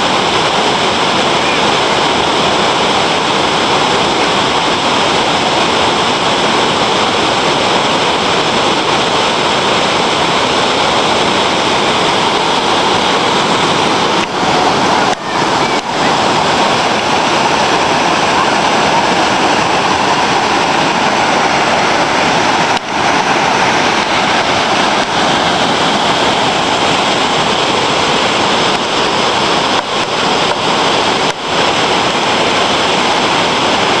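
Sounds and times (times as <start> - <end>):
waterfall roaring: 0.0 - 34.0.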